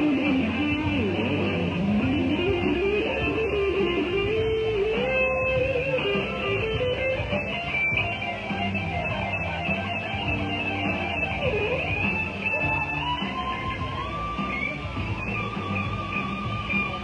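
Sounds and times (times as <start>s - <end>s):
blues band accompaniment: 0.0s - 17.0s
electric guitar lead: 0.0s - 17.0s.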